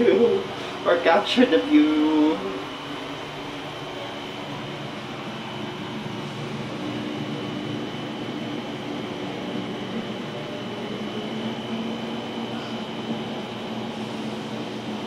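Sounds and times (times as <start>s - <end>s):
faint high whine: 0.0s - 15.0s
machine hum and hiss: 0.0s - 15.0s.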